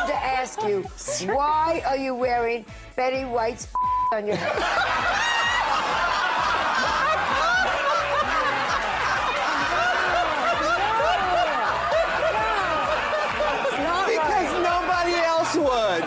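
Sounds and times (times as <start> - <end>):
people laughing: 0.0 - 1.6, 4.3 - 16.0.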